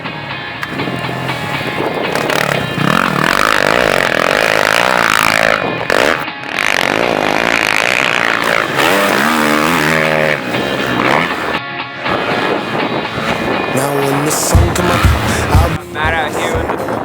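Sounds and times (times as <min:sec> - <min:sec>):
dirt bike engines revving: 0:00.0 - 0:16.5.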